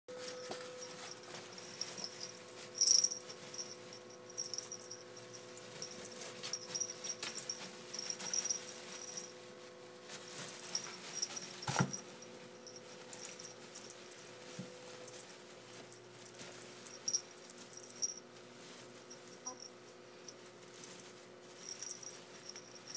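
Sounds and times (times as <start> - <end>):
faint steady hum: 0.1 - 22.9.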